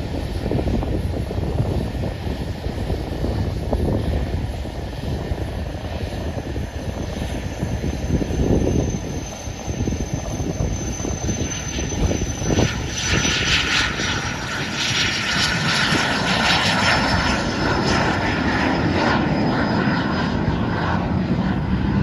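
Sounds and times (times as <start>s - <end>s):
jet engine high whine: 0.0s - 22.0s
rushing jet noise: 0.0s - 22.0s.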